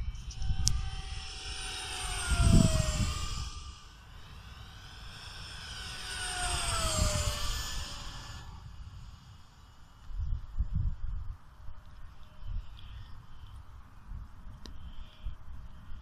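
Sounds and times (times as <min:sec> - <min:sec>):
model jet whine passing: 0:00.0 - 0:14.0.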